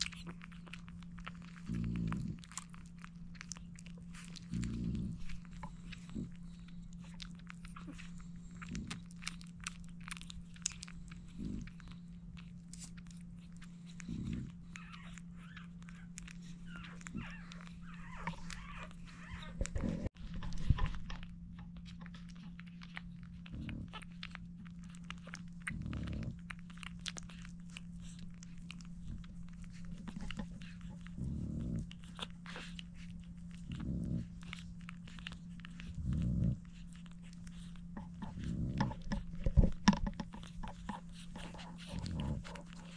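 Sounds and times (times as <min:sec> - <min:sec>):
puppies suckling wet clicks: 0:00.0 - 0:42.9
steady low hum: 0:00.0 - 0:42.9.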